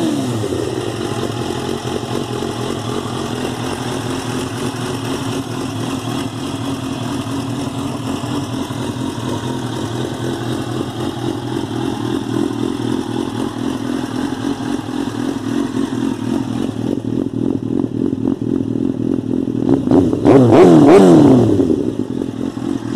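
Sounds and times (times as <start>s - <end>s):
motorcycle engine idling: 0.0s - 20.3s, 20.9s - 22.9s
motorcycle engine revving: 0.0s - 22.9s.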